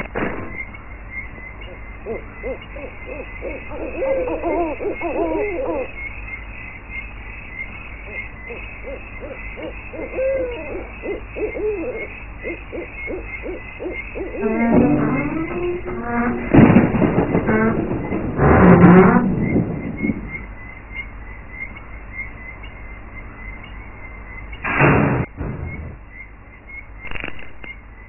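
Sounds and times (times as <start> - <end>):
wavering animal calls: 1.2 - 24.6.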